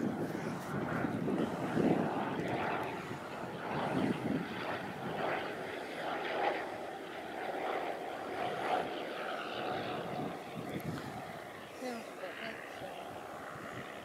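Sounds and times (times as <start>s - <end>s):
propeller plane engine overhead: 0.0s - 14.0s.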